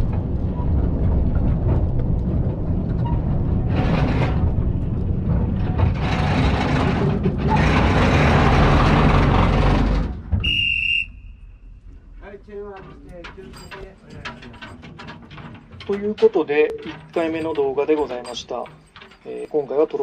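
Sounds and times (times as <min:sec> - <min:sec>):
heavy vehicle rumbling: 0:00.0 - 0:20.0.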